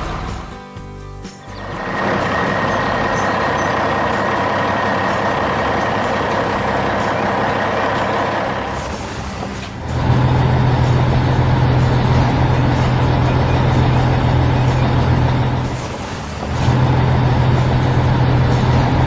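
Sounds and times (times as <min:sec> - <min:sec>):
deep engine drone: 0:00.0 - 0:00.6, 0:01.5 - 0:19.0
heavy vehicle engine running: 0:00.0 - 0:00.7, 0:01.4 - 0:19.0.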